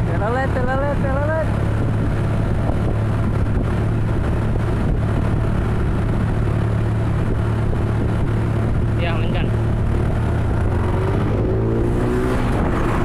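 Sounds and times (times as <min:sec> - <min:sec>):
road vehicle engines rumbling: 0:00.0 - 0:13.0.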